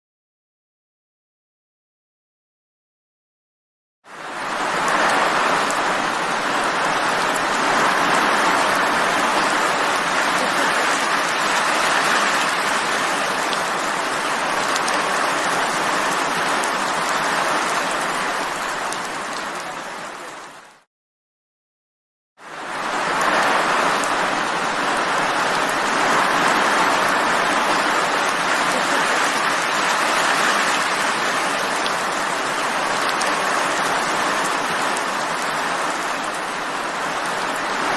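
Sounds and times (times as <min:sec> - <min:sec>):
heavy rain: 0:04.0 - 0:20.9, 0:22.4 - 0:37.9.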